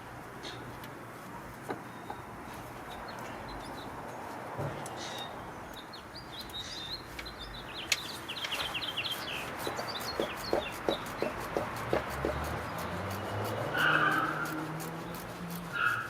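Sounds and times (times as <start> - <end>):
birds chirping: 1.4 - 16.0.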